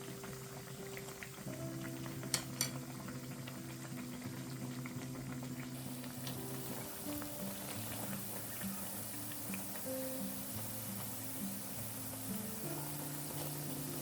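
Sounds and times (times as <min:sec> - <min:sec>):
oil bubbling and crackling: 0:00.0 - 0:14.0.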